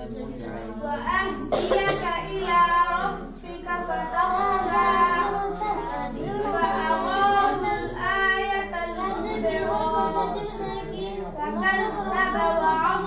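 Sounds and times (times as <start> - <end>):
child chanting melodically: 0.0 - 13.0.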